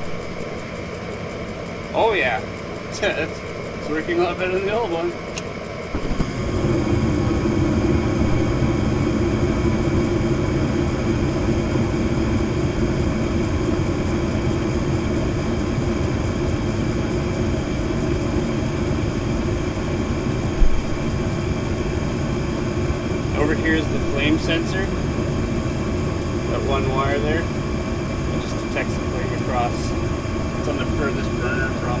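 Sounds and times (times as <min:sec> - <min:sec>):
furnace burner and fan roaring: 0:00.0 - 0:32.0.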